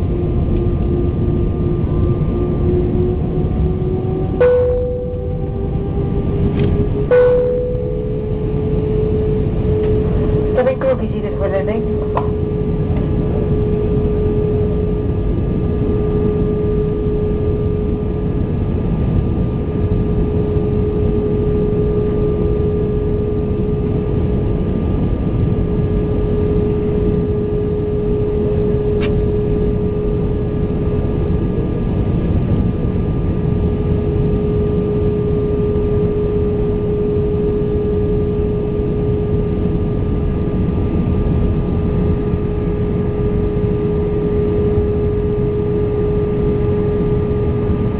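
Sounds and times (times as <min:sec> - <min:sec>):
aircraft cabin engine rumble: 0:00.0 - 0:47.9
constant droning tone: 0:00.0 - 0:47.9.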